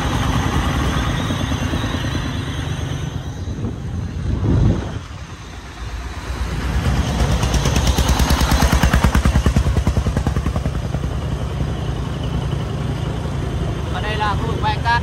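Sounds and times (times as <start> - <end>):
diesel truck engine chugging: 0.0 - 15.0.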